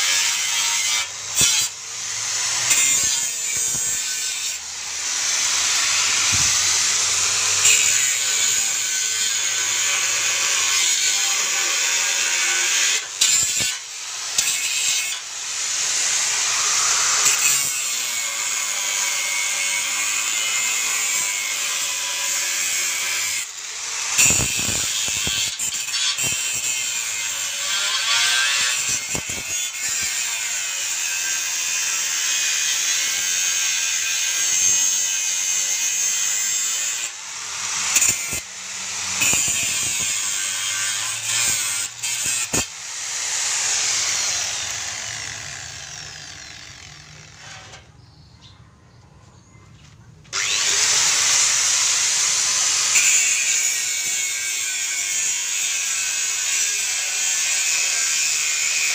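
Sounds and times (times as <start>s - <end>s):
angle grinder cutting steel: 0.0s - 47.9s, 50.3s - 58.9s.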